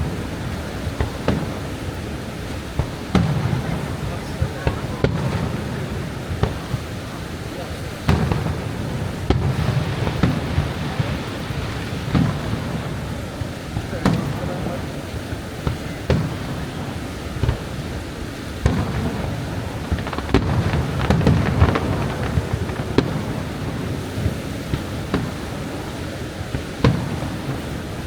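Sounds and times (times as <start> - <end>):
fireworks bangs and booms: 0.0 - 28.0
waterfall roar: 0.0 - 28.0.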